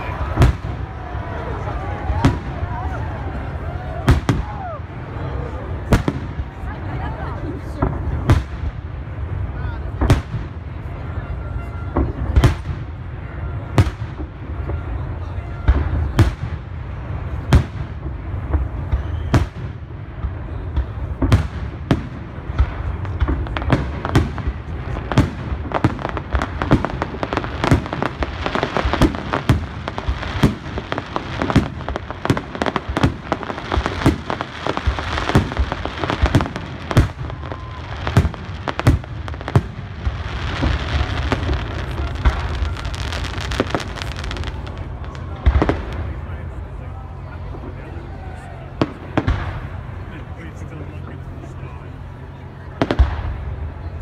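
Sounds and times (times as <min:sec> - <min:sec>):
fireworks bursting bangs: 0:00.0 - 0:47.9, 0:48.7 - 0:50.4, 0:51.2 - 0:54.0
fireworks crackle: 0:00.0 - 0:54.0.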